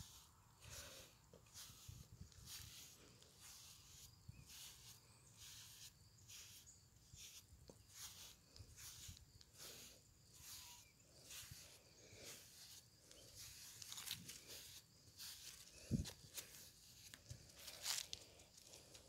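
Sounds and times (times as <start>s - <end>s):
brush swishing through fur: 0.0s - 18.1s.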